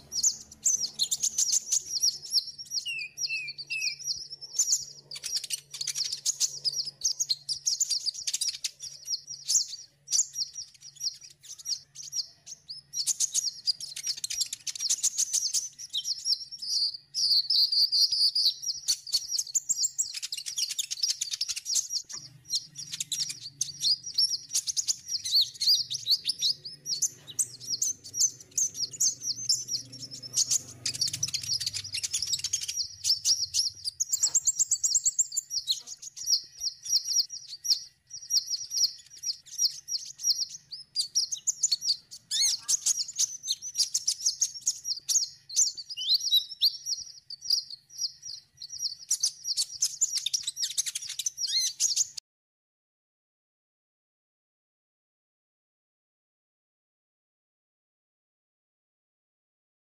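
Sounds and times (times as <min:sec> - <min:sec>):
bird chirping and twittering: 0:00.0 - 0:52.2.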